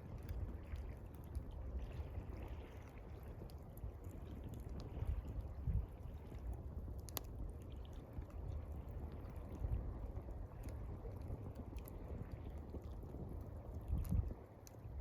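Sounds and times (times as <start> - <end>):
water lapping: 0.0 - 14.9
campfire crackling: 0.0 - 15.0.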